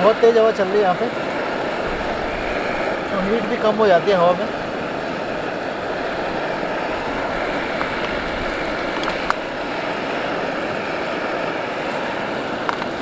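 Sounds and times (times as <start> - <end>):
gas stove hissing: 0.0 - 13.0.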